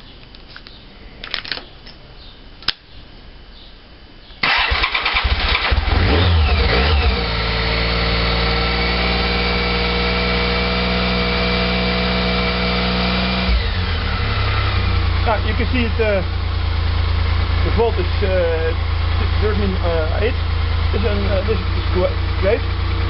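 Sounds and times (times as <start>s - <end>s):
motorcycle engine starting and idling: 4.4s - 23.0s.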